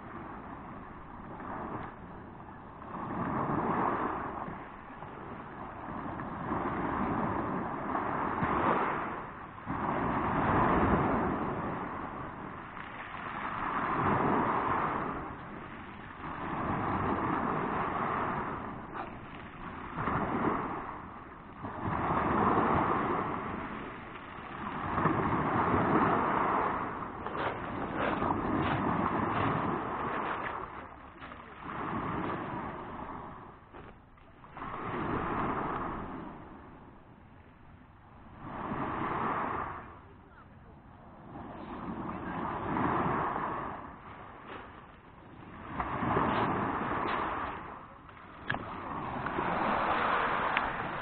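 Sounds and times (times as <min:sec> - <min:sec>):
waves breaking on pebble beach: 0:00.0 - 0:37.1, 0:38.2 - 0:40.4, 0:41.1 - 0:51.0
wind on microphone: 0:00.0 - 0:51.0.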